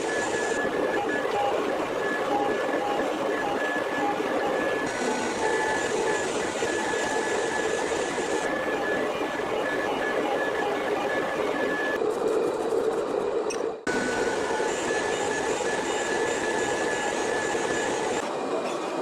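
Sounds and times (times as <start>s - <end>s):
machine noise with high whine: 0.0s - 19.0s.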